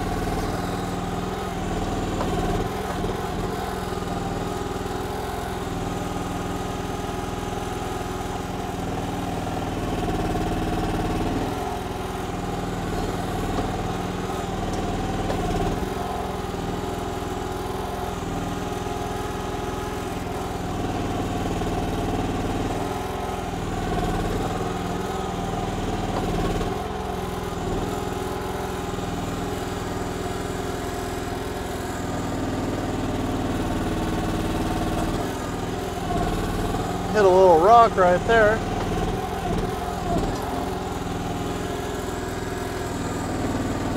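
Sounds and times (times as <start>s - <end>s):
excavator engine running: 0.0s - 43.9s.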